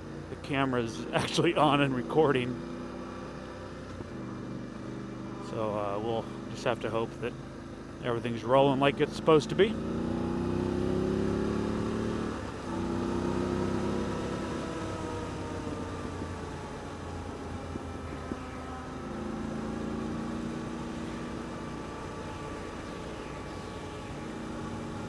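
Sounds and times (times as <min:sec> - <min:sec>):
motorcycle engine accelerating: 0:01.4 - 0:06.6, 0:08.7 - 0:25.0.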